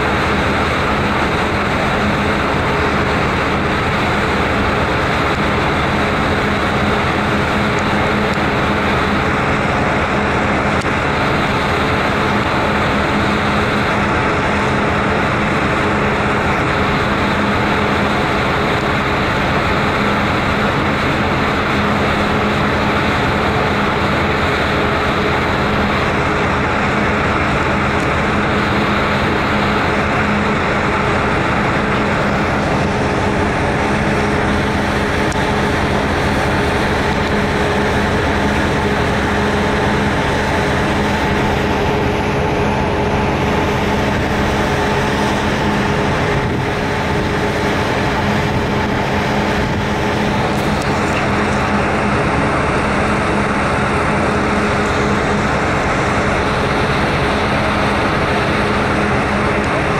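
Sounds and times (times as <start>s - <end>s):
constant rushing noise: 0.0s - 59.9s
ferry engines droning: 0.0s - 59.9s.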